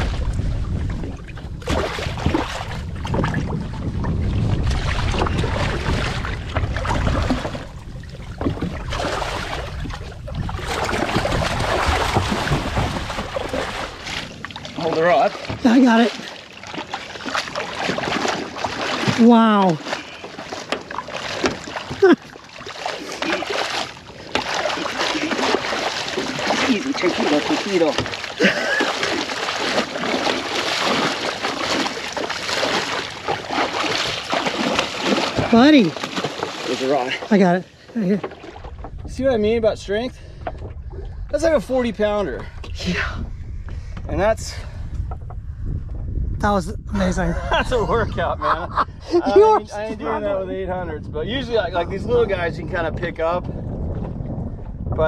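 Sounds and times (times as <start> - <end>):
water splashing and churning: 0.0 - 45.3, 47.0 - 55.0
wind buffeting microphone: 0.0 - 55.0.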